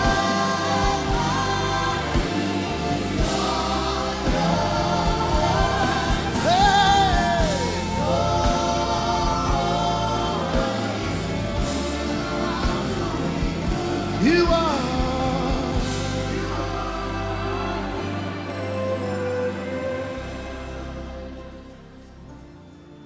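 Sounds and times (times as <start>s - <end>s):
band with bass and drums: 0.0s - 19.8s
choir singing sustained chords: 0.0s - 23.0s.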